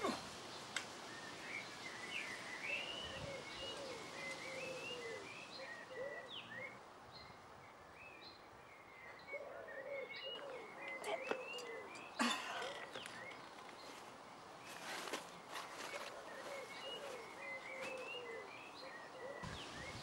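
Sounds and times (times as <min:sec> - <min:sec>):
birds chirping and twittering: 0:00.0 - 0:20.0
light outdoor hiss: 0:00.0 - 0:20.0.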